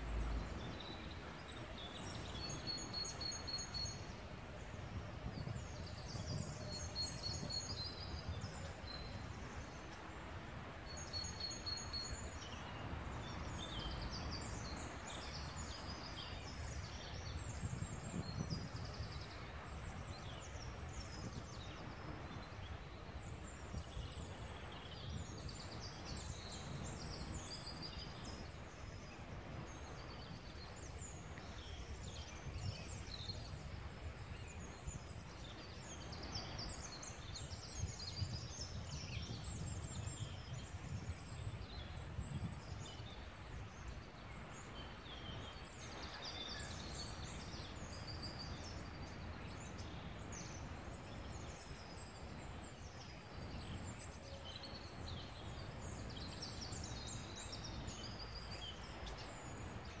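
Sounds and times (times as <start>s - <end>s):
songbirds chirping: 0.0s - 60.0s.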